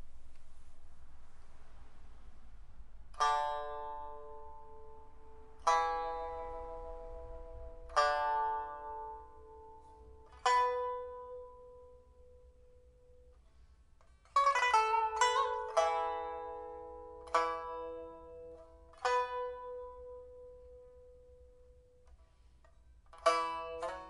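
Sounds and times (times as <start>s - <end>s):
plucked pipa notes: 0.0s - 24.0s.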